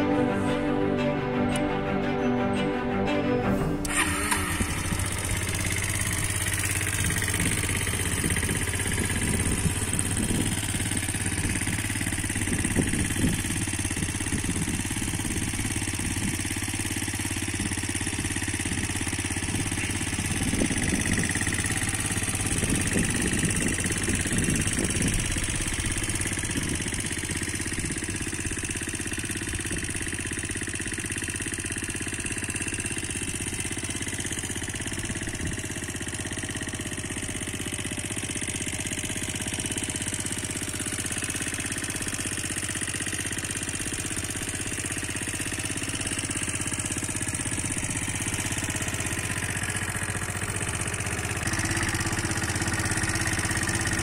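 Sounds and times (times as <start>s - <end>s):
motorcycle engine idling: 3.8s - 54.0s.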